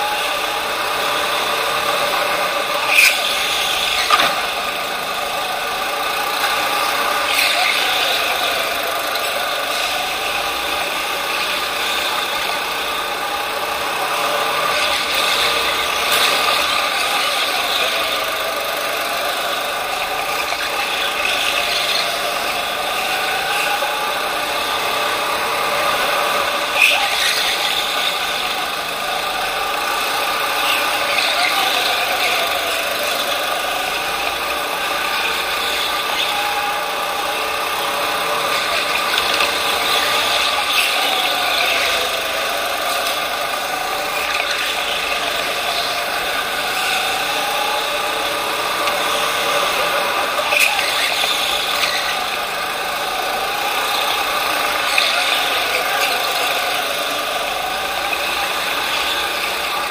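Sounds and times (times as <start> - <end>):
go-kart motor drone: 0.0 - 59.9.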